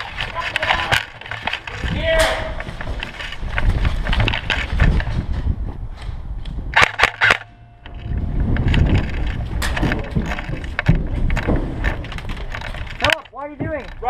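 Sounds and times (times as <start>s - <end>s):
wind rumble on microphone: 0.0s - 6.8s, 7.8s - 14.0s.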